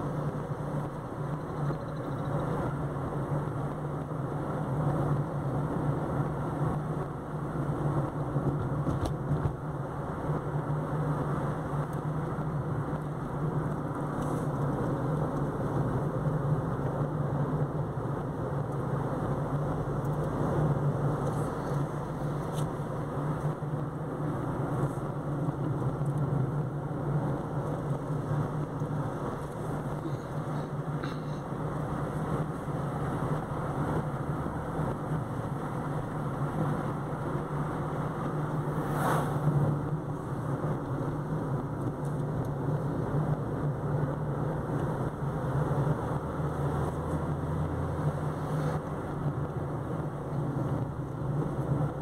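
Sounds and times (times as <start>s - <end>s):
car engine and tyre noise: 0.0s - 52.0s.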